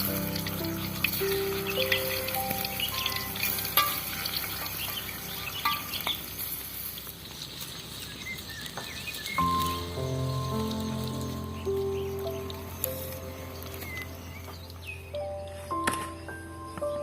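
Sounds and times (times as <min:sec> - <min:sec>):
food sizzling in a pan: 0:00.0 - 0:14.8.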